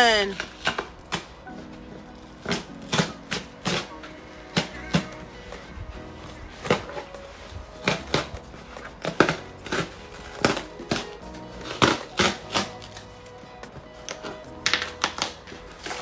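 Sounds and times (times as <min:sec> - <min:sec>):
quiet background music: 0:00.0 - 0:16.0
packaging crinkling and rustling: 0:00.2 - 0:16.0.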